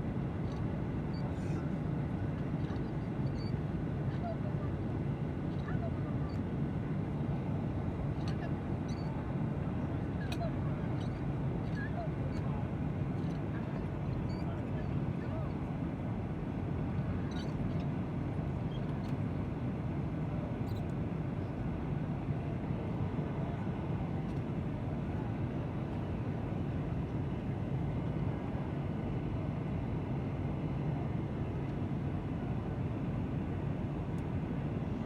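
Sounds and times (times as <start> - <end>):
airliner engines droning: 0.0 - 35.0.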